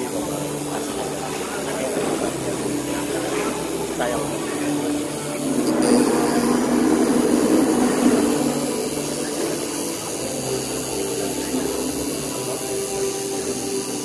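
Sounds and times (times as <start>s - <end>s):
tattoo machines buzzing: 0.0s - 14.0s.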